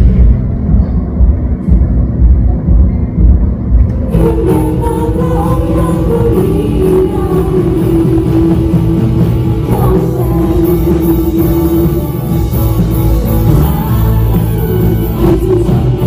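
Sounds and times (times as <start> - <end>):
band playing amplified rock music: 0.0 - 16.0
bass: 0.0 - 16.0
heavy drums: 0.0 - 16.0.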